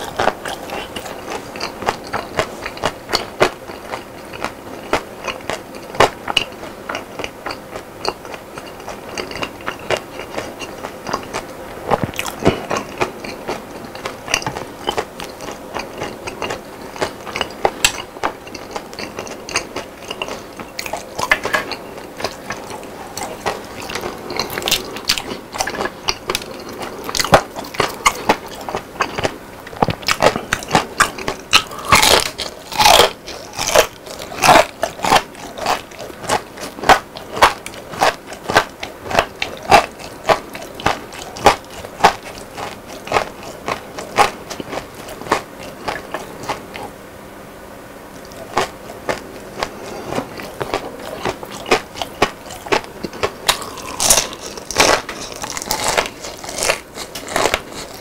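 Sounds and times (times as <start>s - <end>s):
crunchy food chewing: 0.0s - 47.0s, 48.1s - 58.0s.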